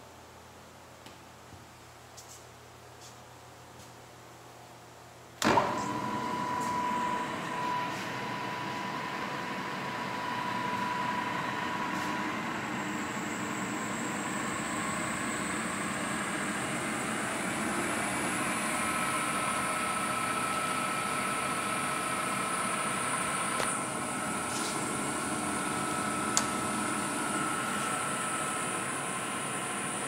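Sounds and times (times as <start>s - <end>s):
mechanical hum and hiss: 0.0s - 30.0s
thin steady whine: 4.3s - 30.0s.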